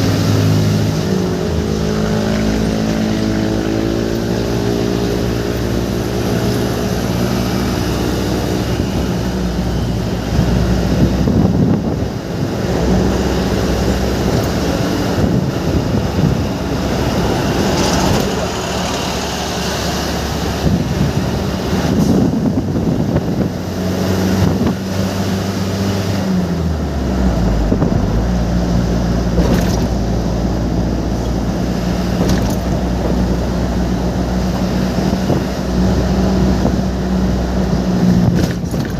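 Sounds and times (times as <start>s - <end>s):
tyre noise on wet road: 0.0s - 38.9s
vehicle engine running: 0.0s - 38.9s.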